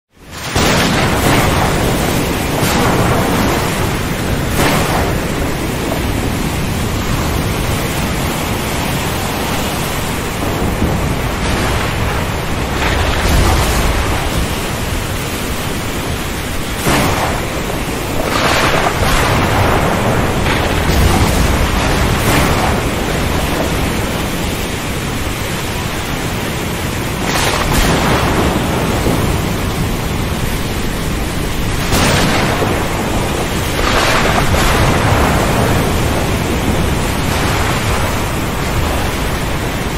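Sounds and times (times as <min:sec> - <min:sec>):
wind: 0:00.1 - 0:39.9
waves: 0:00.2 - 0:39.9
thunder: 0:00.3 - 0:26.3, 0:26.9 - 0:39.9.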